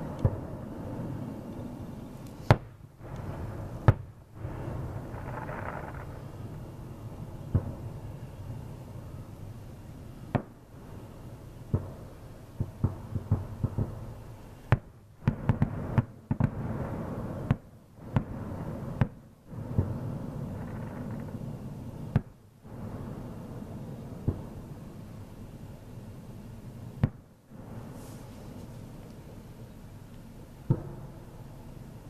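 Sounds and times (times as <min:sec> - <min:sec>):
distant fireworks bangs and booms: 0:00.0 - 0:32.0.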